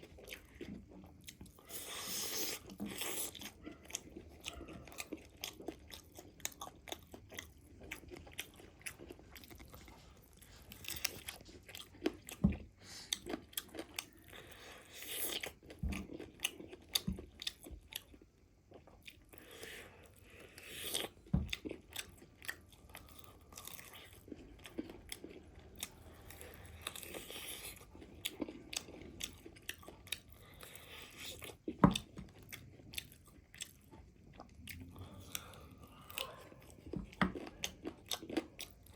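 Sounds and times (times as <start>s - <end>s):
chewing crispy chicken: 0.0s - 38.9s.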